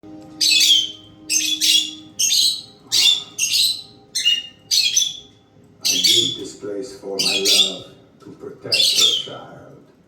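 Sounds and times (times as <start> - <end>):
lovebirds chirping shrilly: 0.4 - 8.0, 8.7 - 9.4.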